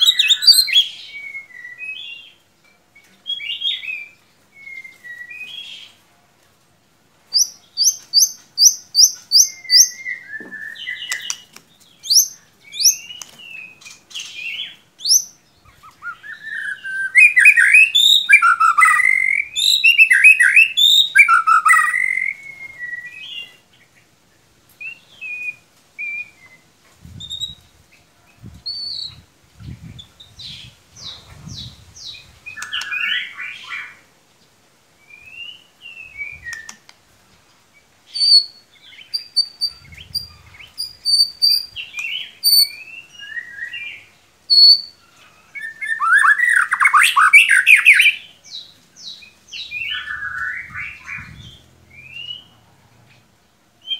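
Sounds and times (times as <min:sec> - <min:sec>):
songbird whistling and chirping: 0:00.0 - 0:06.0, 0:07.3 - 0:23.8, 0:24.8 - 0:27.7, 0:28.5 - 0:34.0, 0:35.0 - 0:36.9, 0:38.1 - 0:52.6.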